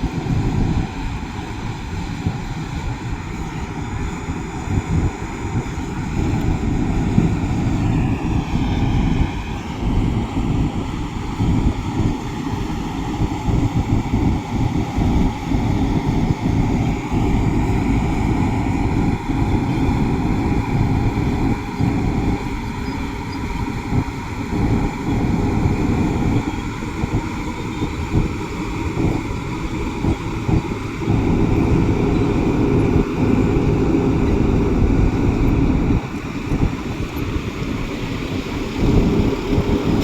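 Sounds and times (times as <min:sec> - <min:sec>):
heavy machinery diesel engine rumbling: 0:00.0 - 0:40.0.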